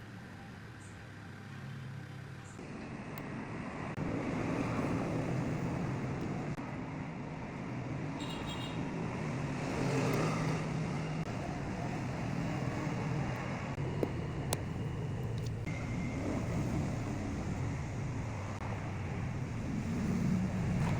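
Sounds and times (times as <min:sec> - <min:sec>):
road traffic noise: 0:00.0 - 0:20.9.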